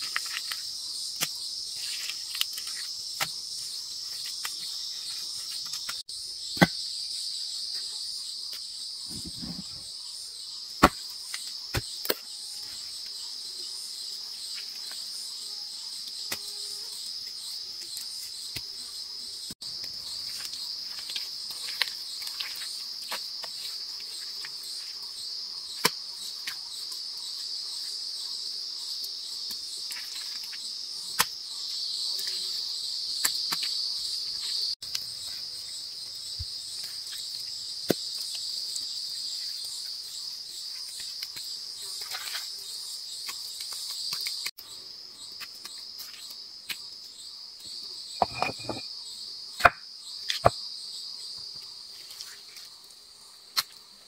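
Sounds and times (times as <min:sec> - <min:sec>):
insect chorus shrilling: 0:00.0 - 0:53.4.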